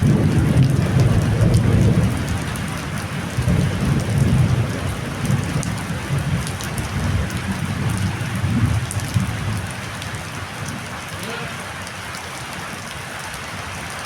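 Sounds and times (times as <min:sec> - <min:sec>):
strong wind: 0:00.0 - 0:13.8
heavy rain pouring: 0:00.0 - 0:14.0
raindrops ticking: 0:00.0 - 0:14.0.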